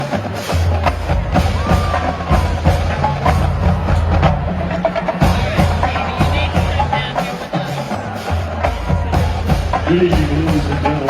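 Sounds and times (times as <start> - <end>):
percussion beat: 0.0 - 11.0.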